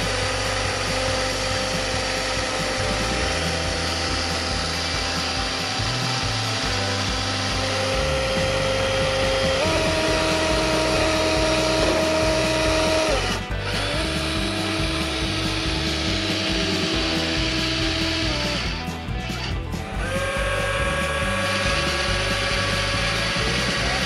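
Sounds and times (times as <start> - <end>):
background music: 0.0 - 24.0
electric motors whining: 0.0 - 24.0.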